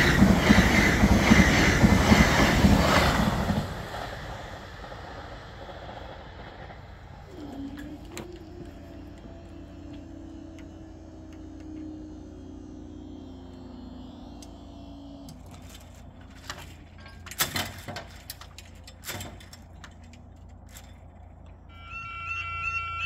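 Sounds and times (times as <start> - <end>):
crossing barrier motor humming: 0.0 - 23.0.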